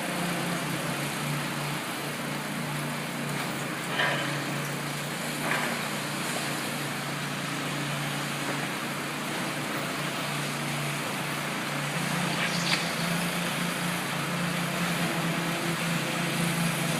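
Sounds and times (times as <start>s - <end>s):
construction machinery engine hum: 0.0s - 16.9s.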